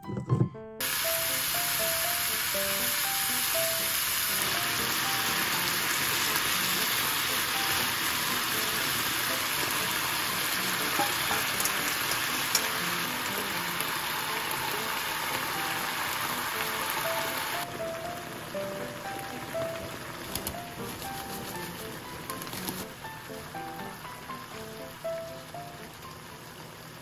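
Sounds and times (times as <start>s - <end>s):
meat sizzling in a frying pan: 0.8s - 27.0s.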